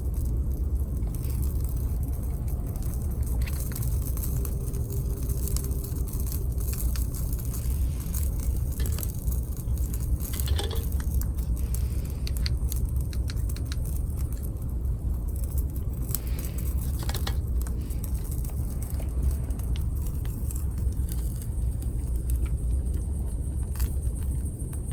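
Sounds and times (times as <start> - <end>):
steady low rumble: 0.0 - 24.9
wood campfire crackling: 0.0 - 24.9.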